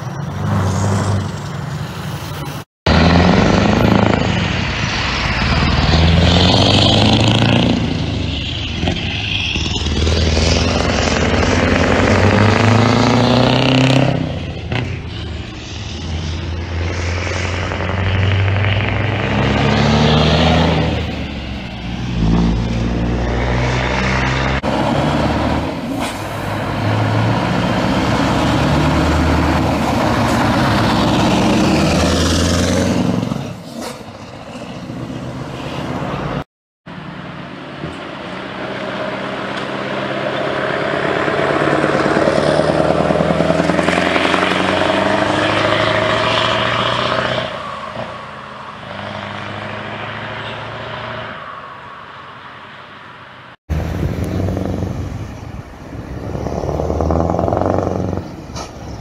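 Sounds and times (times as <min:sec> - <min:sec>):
heavy trucks with straight-piped exhausts: 0:00.0 - 0:59.0.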